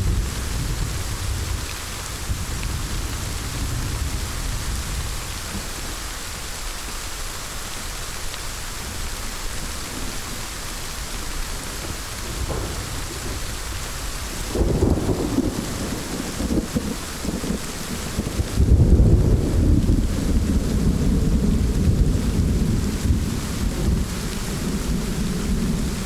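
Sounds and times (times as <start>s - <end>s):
thunder rumbling: 0.0s - 6.0s, 9.6s - 26.0s
heavy rain: 0.0s - 26.0s.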